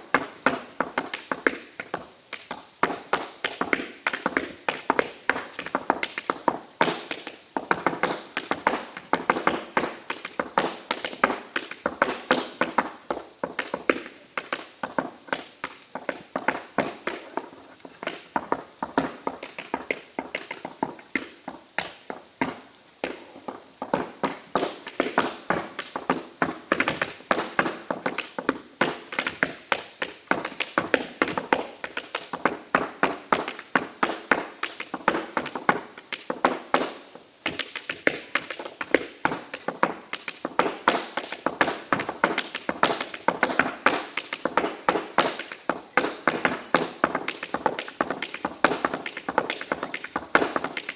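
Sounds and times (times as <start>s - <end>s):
tap shoes on hard surface: 0.0s - 50.9s.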